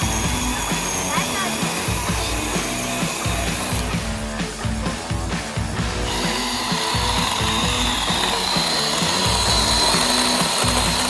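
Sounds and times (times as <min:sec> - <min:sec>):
background music: 0:00.0 - 0:11.0
electric chainsaw cutting wood: 0:00.0 - 0:11.0.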